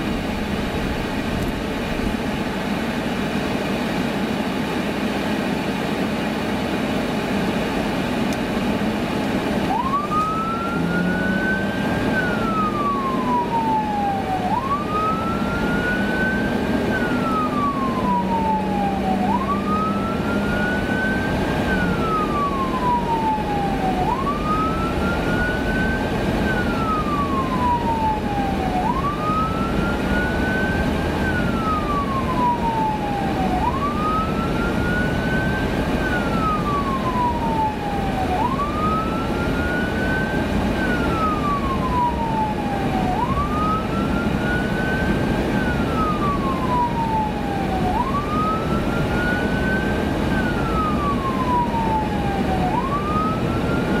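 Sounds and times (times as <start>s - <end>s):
road and engine noise: 0.0s - 54.0s
siren wailing: 9.6s - 54.0s.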